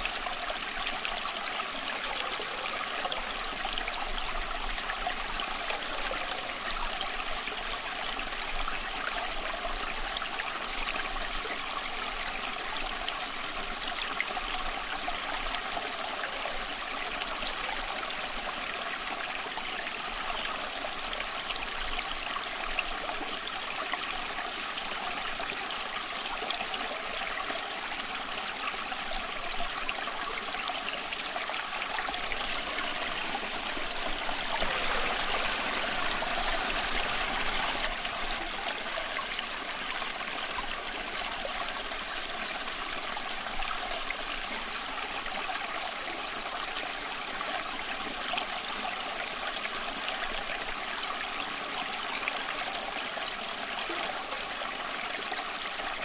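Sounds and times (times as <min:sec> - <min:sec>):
stream water babbling over stones: 0:00.0 - 0:56.0.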